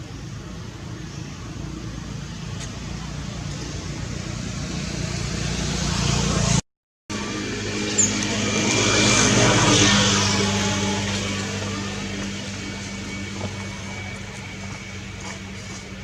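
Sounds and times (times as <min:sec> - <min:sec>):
low engine hum: 0:00.0 - 0:16.0
motor vehicle passing by: 0:01.0 - 0:16.0.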